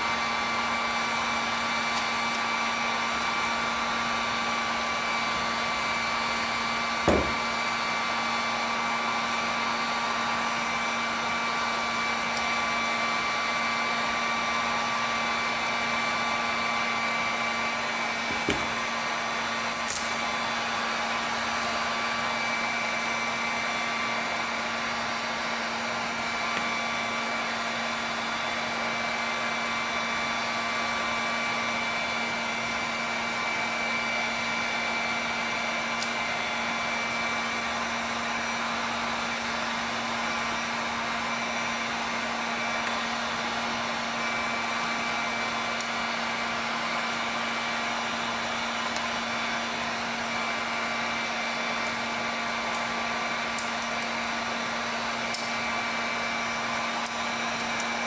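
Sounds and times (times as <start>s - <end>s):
electric blower whirring: 0.0s - 58.0s.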